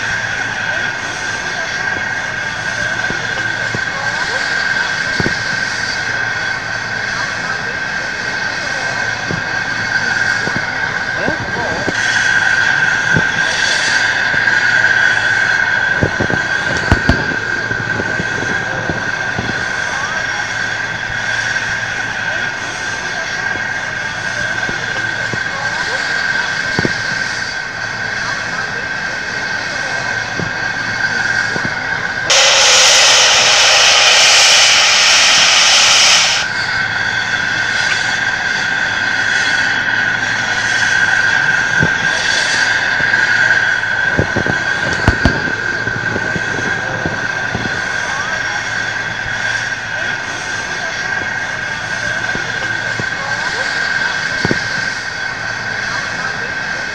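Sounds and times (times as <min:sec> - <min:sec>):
steam hissing with whistling tone: 0:00.0 - 0:56.9.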